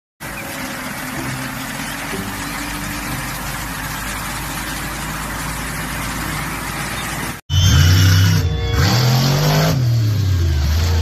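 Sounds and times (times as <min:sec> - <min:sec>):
truck engine running: 0:00.2 - 0:11.0.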